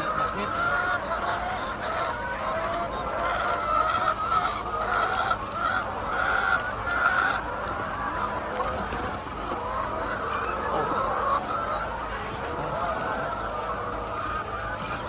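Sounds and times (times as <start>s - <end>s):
hens calling: 0.0s - 15.0s.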